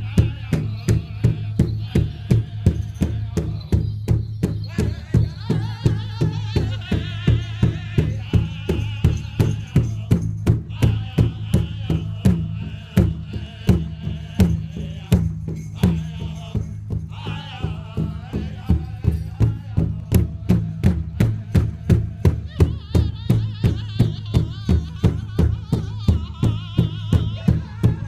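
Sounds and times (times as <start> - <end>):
drum beating fast: 0.0 - 28.0
group singing high wavering voices: 0.0 - 28.0.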